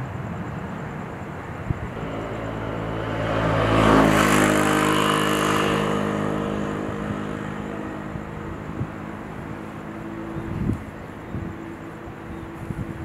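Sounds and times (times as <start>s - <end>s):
passing motor vehicle engine: 1.9s - 13.0s.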